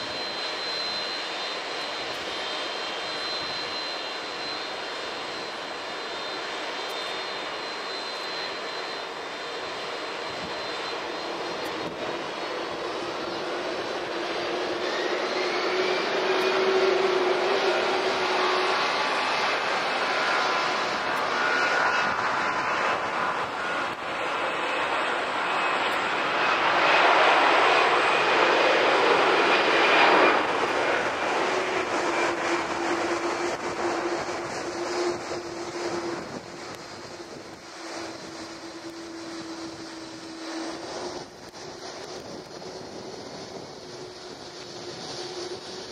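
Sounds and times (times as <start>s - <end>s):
jet engines taxiing: 0.0s - 45.9s.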